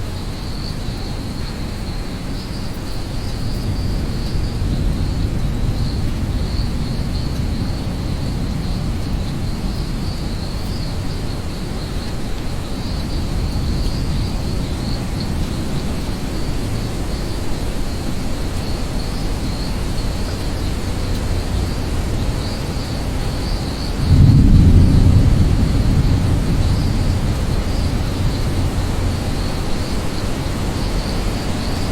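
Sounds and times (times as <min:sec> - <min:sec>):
insects chirring: 0:00.0 - 0:31.9
rain rumble: 0:00.0 - 0:31.9
thunder rumble: 0:03.3 - 0:31.9.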